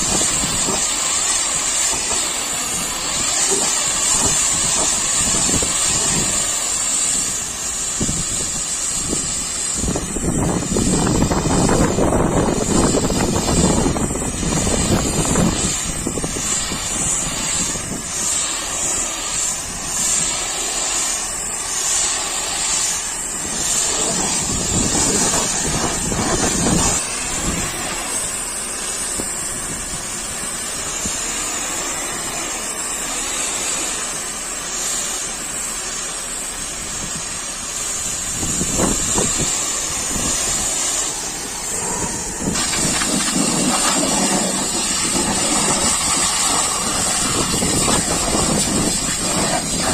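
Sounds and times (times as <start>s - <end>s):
pressure washer spraying water: 0.0s - 49.9s.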